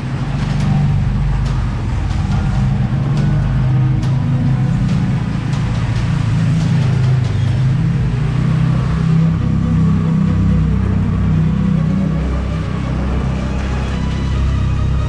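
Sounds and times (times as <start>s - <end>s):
scooter engine in a tunnel: 0.0s - 15.0s.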